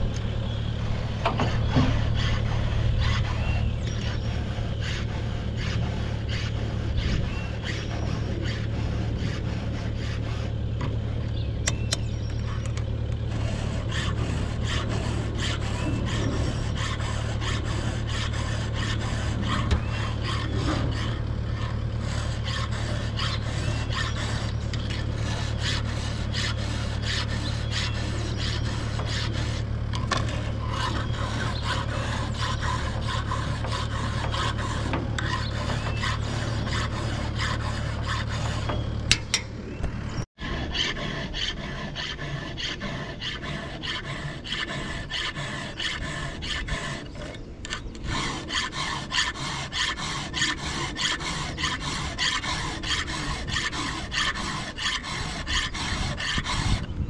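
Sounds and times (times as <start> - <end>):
low steady hum: 0.0 - 57.0
rasping and scraping on wood: 0.0 - 57.0.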